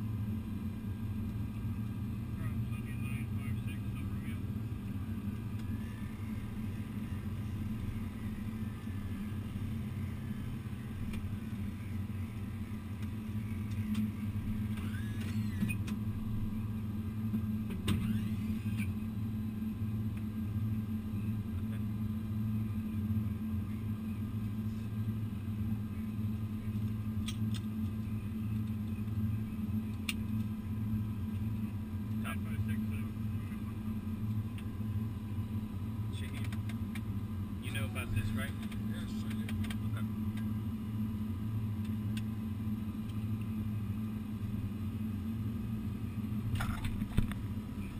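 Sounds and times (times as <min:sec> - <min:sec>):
airliner engines idling drone: 0:00.0 - 0:47.9.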